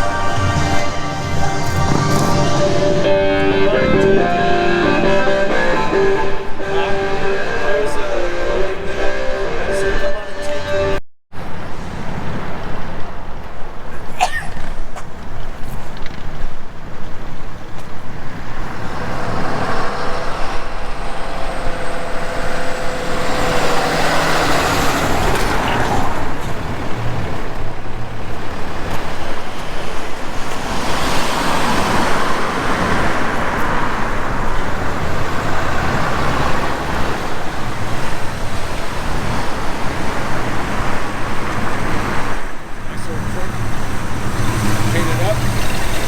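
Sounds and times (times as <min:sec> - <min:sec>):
road traffic rumble: 0:00.0 - 0:46.0
vehicles passing: 0:00.0 - 0:46.0.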